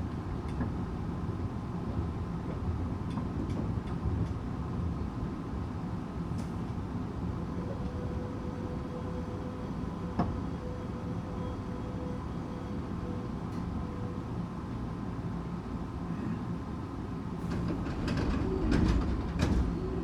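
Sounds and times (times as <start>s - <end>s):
train wheels and motors rumbling: 0.0s - 20.0s.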